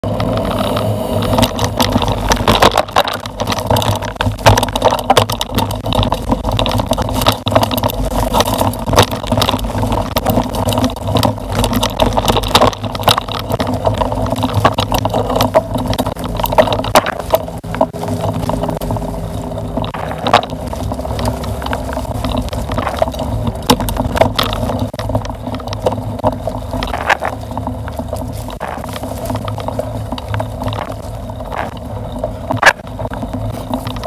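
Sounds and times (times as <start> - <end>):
bike and camera rattling: 0.0 - 34.0
bike tyres rolling on rough ground: 0.0 - 34.0.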